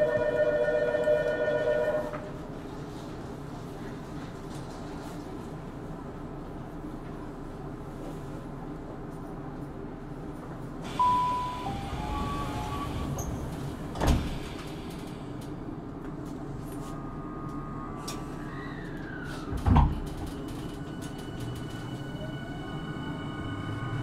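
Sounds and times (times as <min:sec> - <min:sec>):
train cabin rumble: 0:00.0 - 0:24.0.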